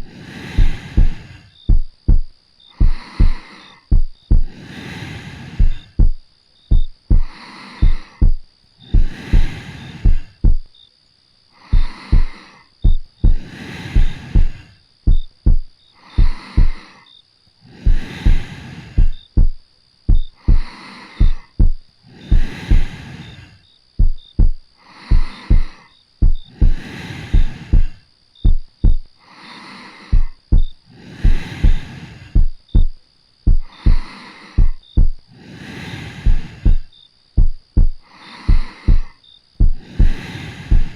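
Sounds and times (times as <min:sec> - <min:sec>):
heartbeat thumping: 0:00.0 - 0:04.6, 0:05.6 - 0:10.7, 0:11.7 - 0:16.8, 0:17.8 - 0:23.0, 0:24.0 - 0:29.1, 0:30.1 - 0:35.2, 0:36.2 - 0:40.9
slow soft breathing: 0:00.0 - 0:10.7, 0:11.5 - 0:40.9.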